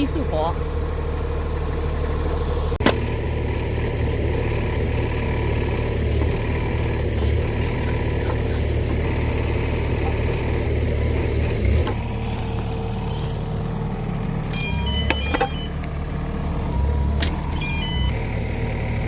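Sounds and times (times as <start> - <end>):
excavator engine humming: 0.0 - 19.0.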